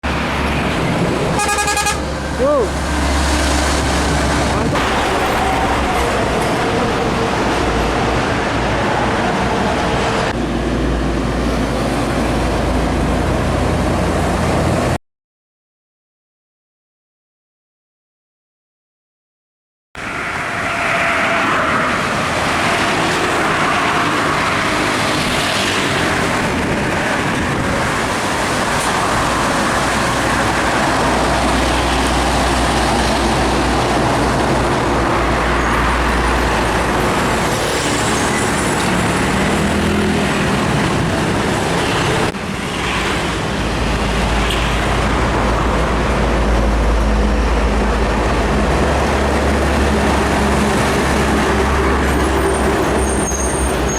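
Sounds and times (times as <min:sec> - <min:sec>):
truck engines rumbling: 0:00.0 - 0:15.0, 0:20.0 - 0:53.9
tyre and traffic noise: 0:00.0 - 0:15.0, 0:20.0 - 0:53.9.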